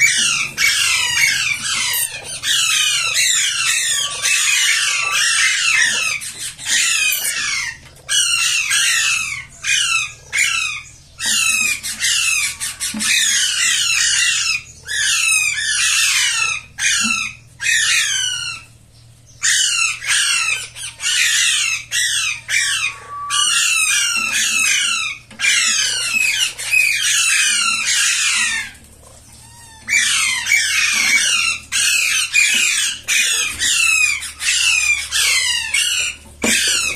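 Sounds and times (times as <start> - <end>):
parakeet squawking: 0.0 - 18.7, 19.4 - 36.9.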